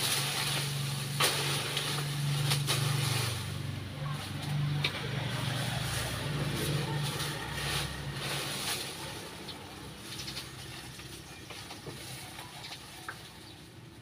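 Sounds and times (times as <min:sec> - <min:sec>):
dry leaves rustling as raked: 0:00.0 - 0:14.0
engine humming: 0:00.0 - 0:14.0
rake scraping: 0:00.0 - 0:14.0.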